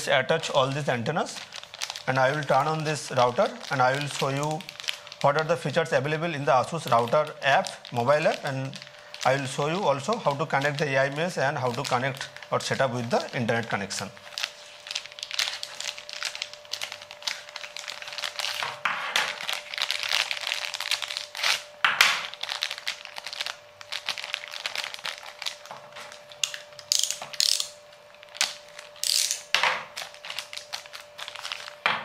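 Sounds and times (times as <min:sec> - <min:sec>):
plastic bags crinkling: 0:00.0 - 0:32.0.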